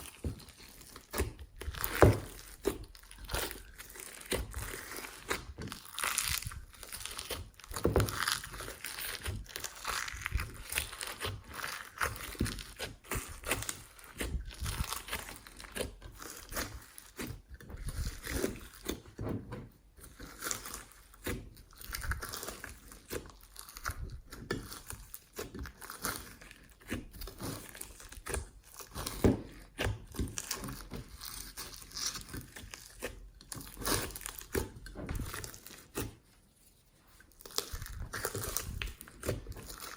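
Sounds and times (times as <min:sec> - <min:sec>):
slime squishing and popping: 0:00.0 - 0:19.2, 0:20.0 - 0:36.3, 0:37.4 - 0:39.9.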